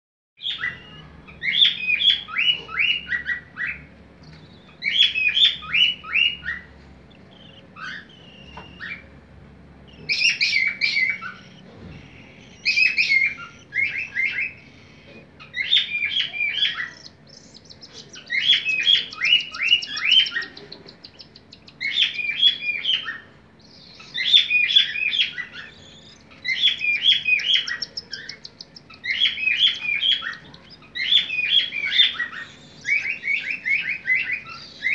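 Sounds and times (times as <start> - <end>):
chicks begging with high chirps: 0.4 - 34.9.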